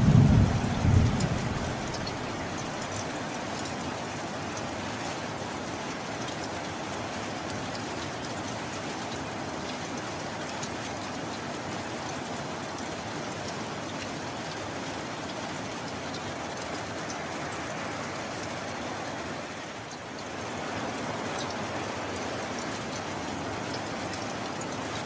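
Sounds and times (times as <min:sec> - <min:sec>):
heavy rain: 0:00.0 - 0:25.0
sharp rain drop ticks: 0:00.0 - 0:25.0.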